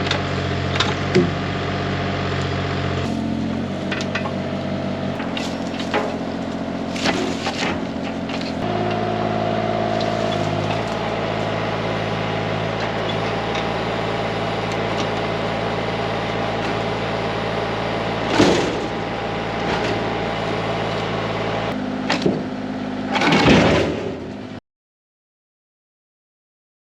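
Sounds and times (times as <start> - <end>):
excavator diesel engine and hydraulics: 0.0 - 24.6.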